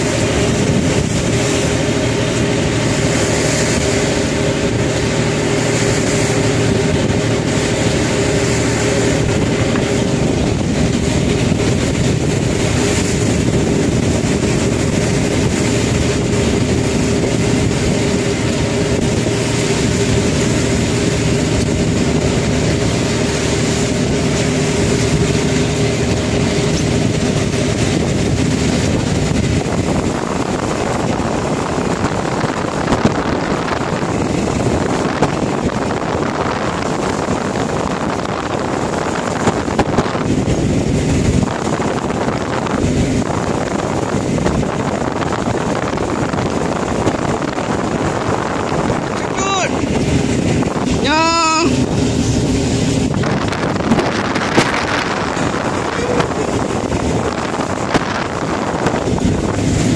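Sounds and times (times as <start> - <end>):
boat engine running: 0.0 - 59.9
water rushing along hull: 0.0 - 59.9
wind: 0.0 - 59.9.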